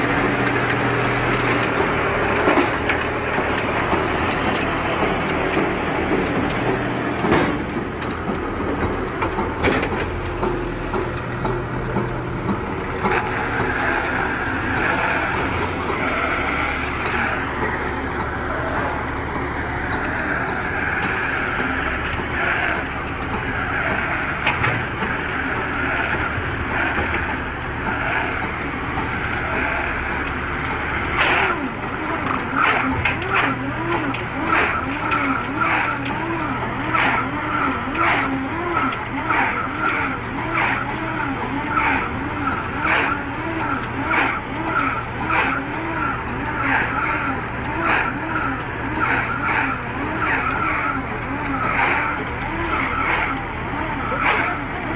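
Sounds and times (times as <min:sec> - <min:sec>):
rhythmic squeak and click: 0:00.0 - 0:54.9
round baler running: 0:00.0 - 0:54.9.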